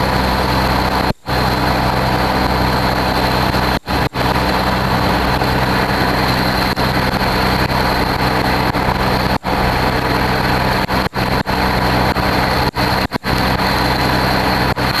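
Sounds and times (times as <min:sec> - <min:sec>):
large engine idling: 0:00.0 - 0:15.0
thin high whine: 0:00.0 - 0:15.0.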